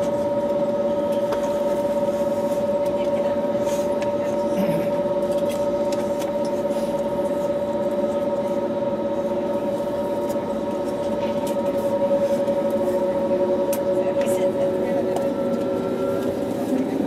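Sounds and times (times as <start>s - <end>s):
jet engine whine: 0.0s - 17.0s.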